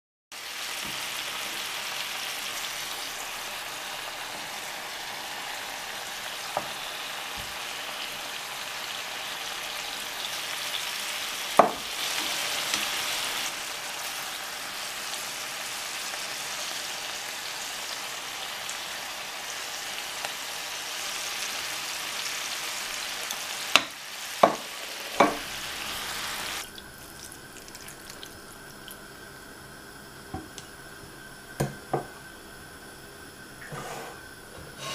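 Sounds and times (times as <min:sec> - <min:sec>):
food sizzling in a pan: 0:00.3 - 0:34.9.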